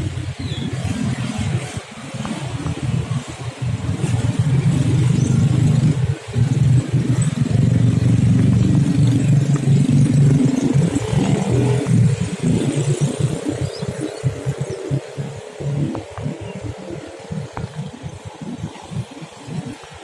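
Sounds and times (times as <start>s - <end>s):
motor traffic passing: 0.0s - 19.7s.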